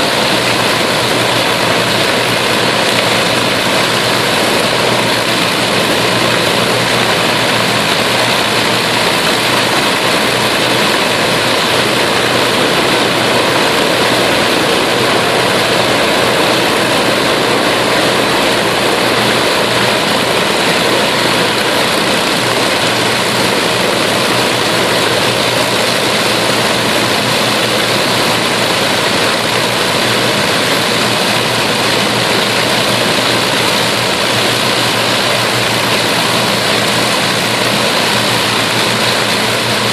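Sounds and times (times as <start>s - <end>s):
piston aircraft engines droning: 0.0s - 39.9s
propeller noise: 0.0s - 39.9s.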